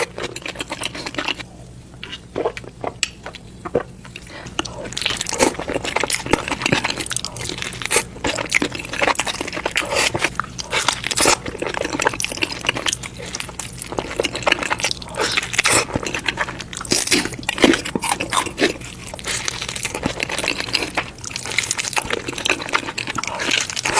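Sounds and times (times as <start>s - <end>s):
crunchy food being chewed: 0.0s - 23.9s.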